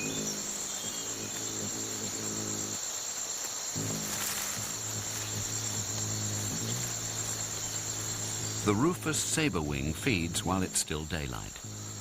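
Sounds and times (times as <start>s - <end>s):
rainforest insects chorus: 0.0s - 12.0s.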